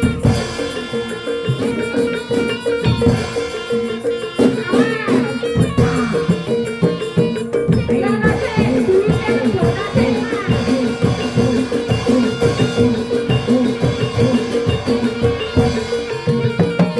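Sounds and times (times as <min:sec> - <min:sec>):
drum strokes: 0:00.0 - 0:16.9
pitched percussion: 0:00.0 - 0:16.9
ringing metal tone: 0:00.0 - 0:16.9.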